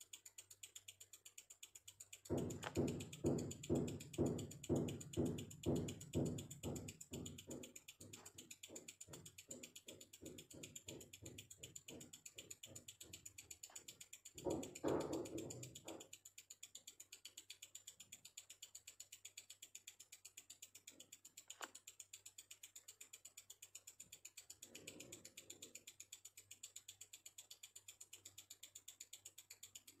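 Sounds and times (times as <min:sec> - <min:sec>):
faint watch ticking: 0:00.0 - 0:30.0.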